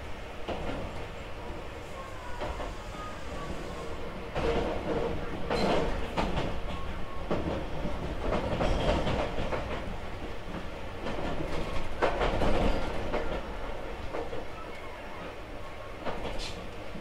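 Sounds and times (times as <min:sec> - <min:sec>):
train rumble inside passenger car: 0:00.0 - 0:17.0.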